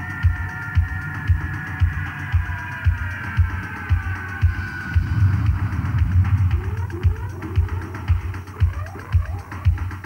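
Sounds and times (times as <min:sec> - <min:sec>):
electronic music with low beat: 0:00.0 - 0:10.0.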